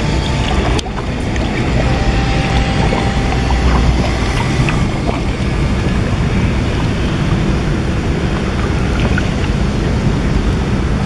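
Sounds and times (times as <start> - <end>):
boat low rumble: 0.0 - 11.0
wind buffeting microphone: 0.0 - 11.0.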